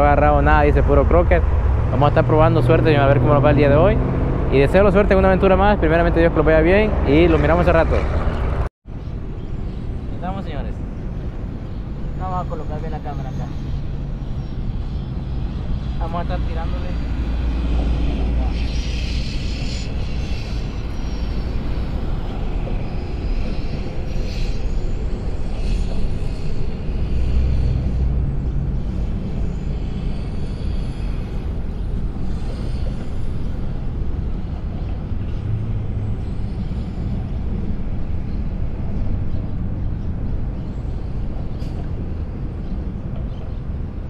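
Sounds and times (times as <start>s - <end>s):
traffic rumble on bridge overhead: 0.0s - 44.0s.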